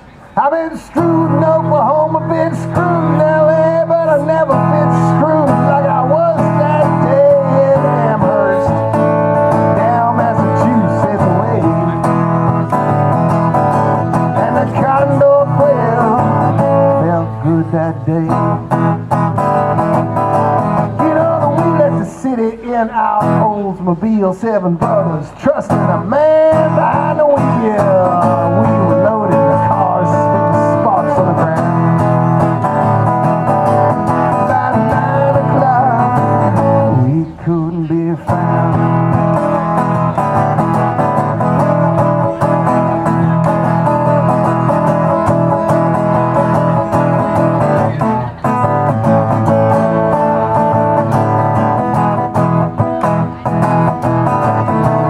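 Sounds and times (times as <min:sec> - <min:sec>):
acoustic guitar strumming: 0:00.1 - 0:55.0
man singing: 0:00.4 - 0:12.9, 0:13.7 - 0:19.0, 0:20.5 - 0:55.0.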